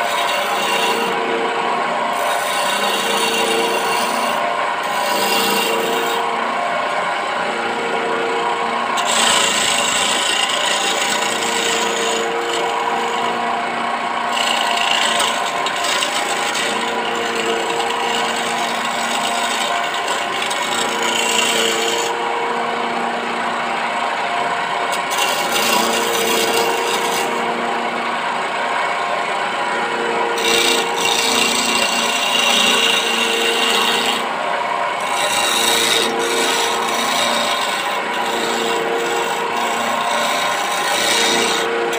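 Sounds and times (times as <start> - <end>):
chisel shaving spinning wood: 0.0 - 41.9
wood lathe motor humming: 0.0 - 41.9.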